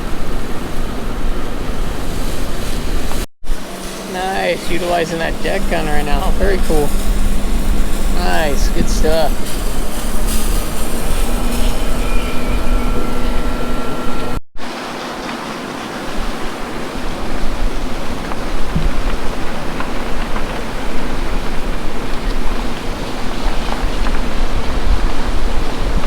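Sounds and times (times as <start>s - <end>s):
strong wind buffeting microphone: 0.0s - 14.4s, 16.2s - 26.0s.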